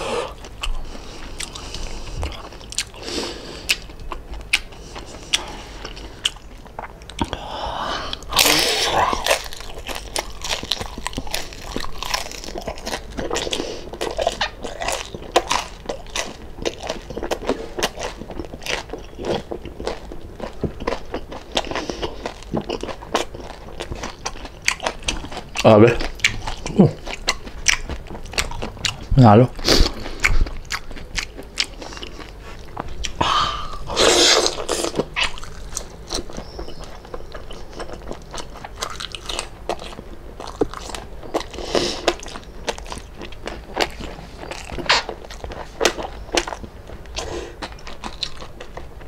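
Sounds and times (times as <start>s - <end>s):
chewing crispy pork: 0.0s - 49.0s.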